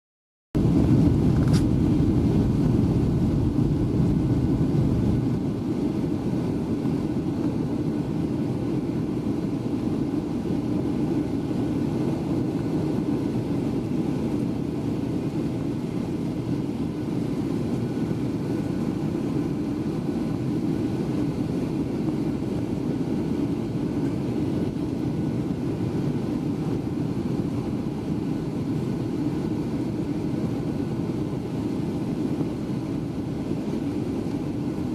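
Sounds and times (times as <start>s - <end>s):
airplane cabin engine noise: 0.6s - 34.9s.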